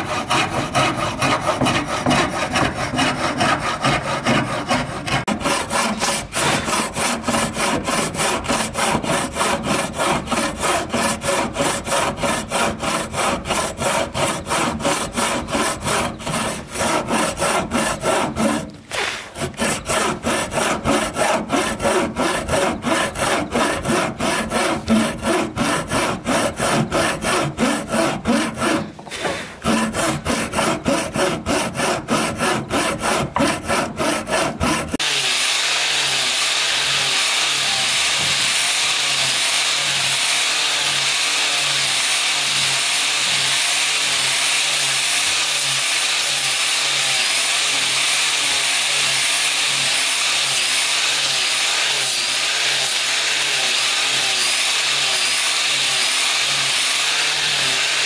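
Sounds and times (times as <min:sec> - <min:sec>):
hand saw cutting wood: 0:00.0 - 0:58.0.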